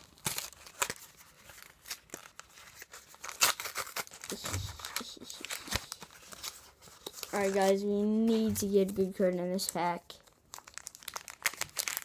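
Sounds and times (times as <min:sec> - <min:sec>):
wrapper ripping: 0:00.0 - 0:07.9, 0:09.6 - 0:12.0
foil wrapper crinkling: 0:00.0 - 0:12.0.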